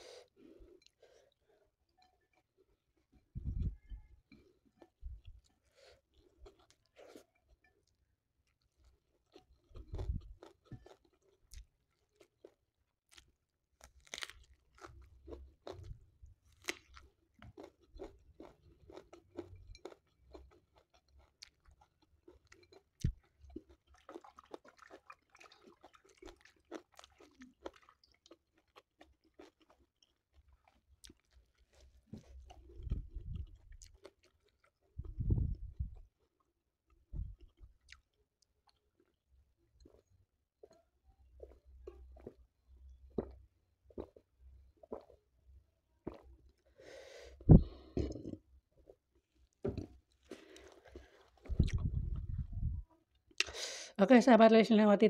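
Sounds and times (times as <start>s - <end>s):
chewing and crunching: 3.7s - 45.2s, 47.8s - 53.5s.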